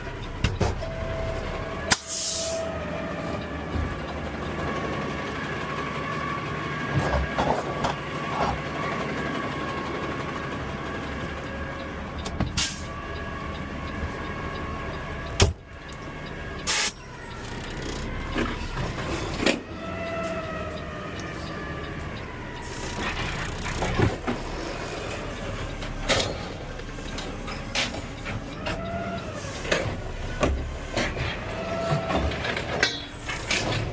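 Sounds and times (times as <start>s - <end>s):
garbage truck engine running: 0.0s - 33.9s.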